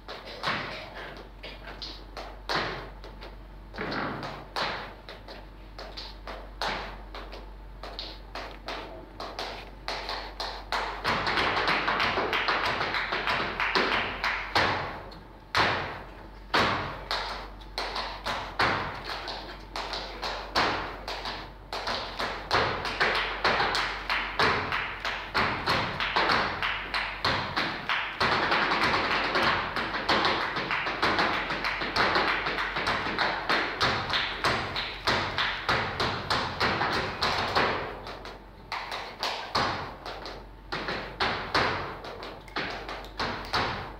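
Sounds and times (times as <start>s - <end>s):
shoes stamping on stage floor: 0.0s - 43.9s.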